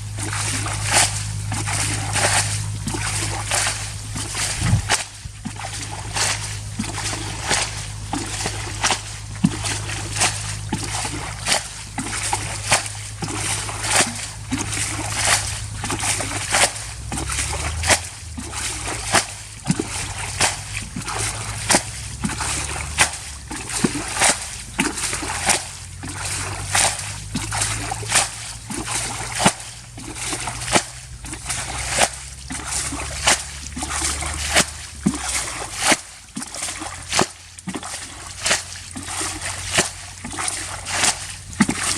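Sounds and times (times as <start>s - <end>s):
low steady rumble: 0.0s - 41.9s
water splashing and sloshing: 0.0s - 41.9s.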